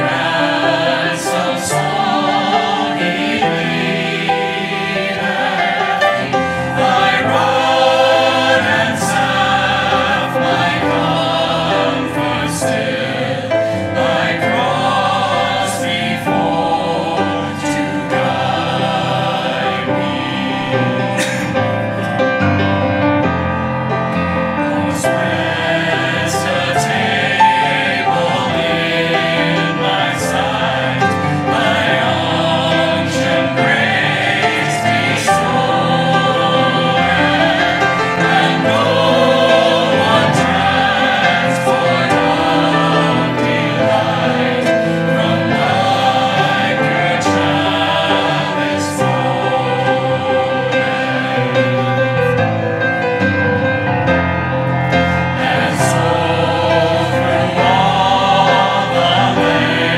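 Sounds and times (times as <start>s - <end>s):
choir singing: 0.0s - 59.9s
piano accompaniment: 0.0s - 59.9s.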